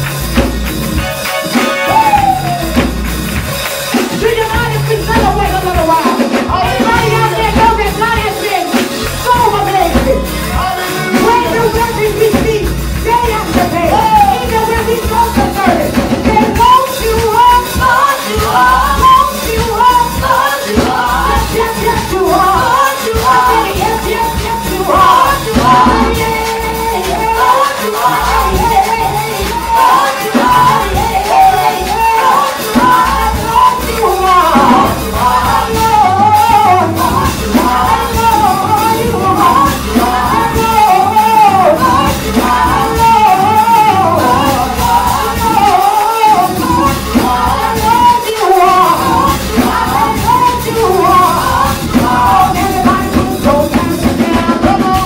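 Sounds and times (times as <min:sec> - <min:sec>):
live instrumental accompaniment: 0:00.0 - 0:55.0
woman singing into a microphone: 0:04.2 - 0:55.0.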